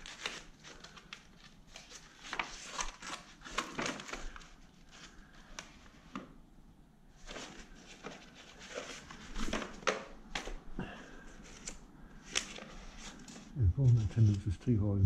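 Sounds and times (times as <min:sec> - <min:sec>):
paper rustling and sliding: 0:00.0 - 0:06.2, 0:07.1 - 0:10.6, 0:11.2 - 0:14.5.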